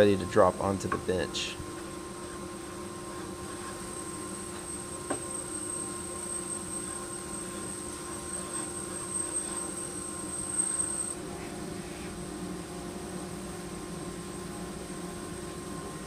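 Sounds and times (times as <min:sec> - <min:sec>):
steady droning hum: 0:00.0 - 0:16.0.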